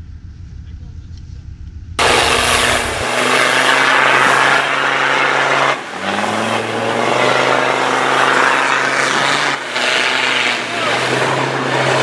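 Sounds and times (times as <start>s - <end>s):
off-road engine revving hard: 2.0s - 12.0s
water and mud splashing: 2.0s - 12.0s.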